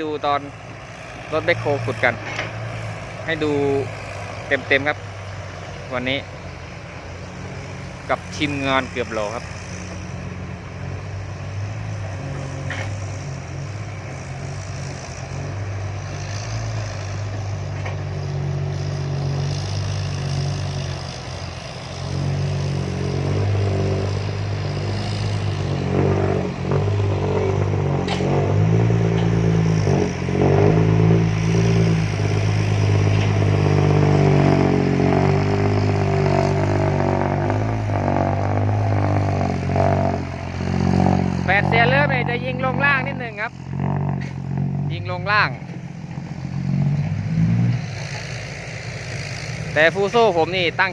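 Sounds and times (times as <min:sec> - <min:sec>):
dump truck engine revving: 0:00.0 - 0:50.9.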